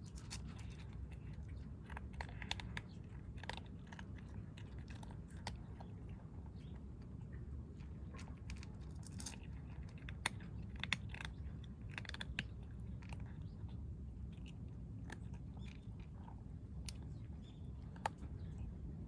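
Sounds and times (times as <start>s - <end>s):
kittens chewing food: 0.0s - 19.0s.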